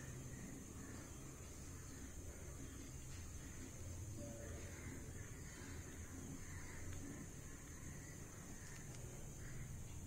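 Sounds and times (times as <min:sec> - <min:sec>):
low steady hum and hiss: 0:00.0 - 0:10.0.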